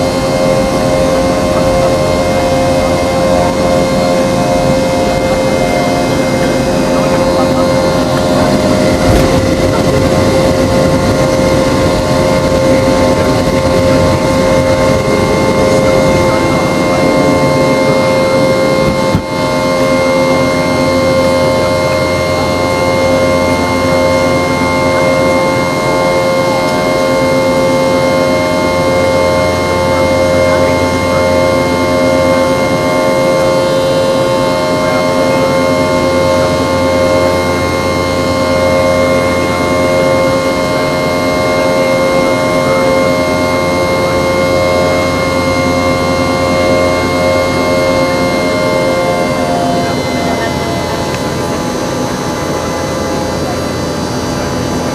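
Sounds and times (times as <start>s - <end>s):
jet engines humming and whining: 0.0s - 54.9s.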